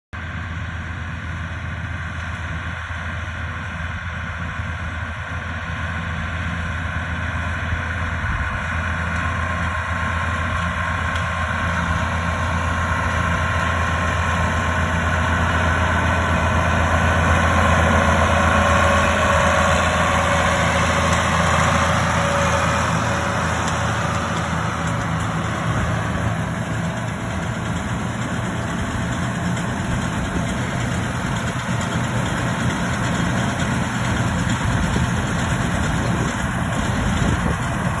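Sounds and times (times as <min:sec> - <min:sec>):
round baler: 0:00.2 - 0:38.0
tractor engine running: 0:00.2 - 0:38.0.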